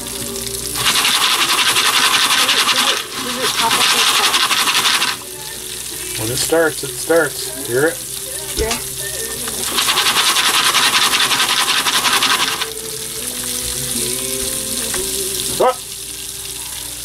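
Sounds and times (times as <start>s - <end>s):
popcorn kernels sizzling in oil: 0.0s - 17.0s.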